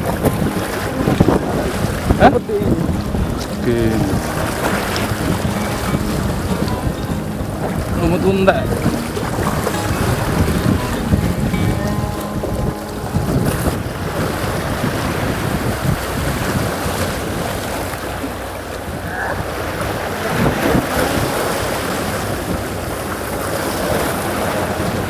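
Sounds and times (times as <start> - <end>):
sea water lapping: 0.0 - 25.0
wind buffeting microphone: 0.0 - 25.0.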